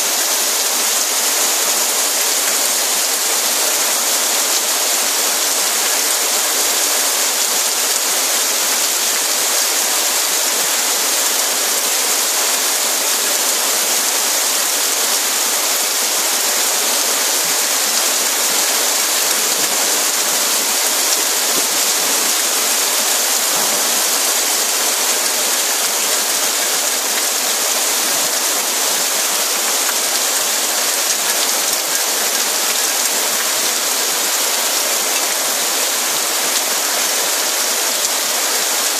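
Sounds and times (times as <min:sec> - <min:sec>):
heavy rain on paving: 0:00.0 - 0:38.9.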